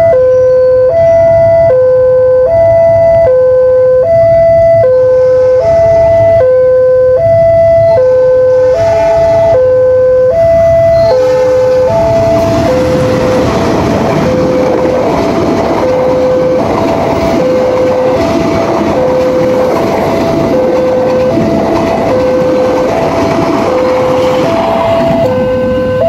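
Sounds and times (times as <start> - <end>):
level-crossing alarm two-tone signal: 0.0 - 26.0
passing train running noise: 3.7 - 26.0.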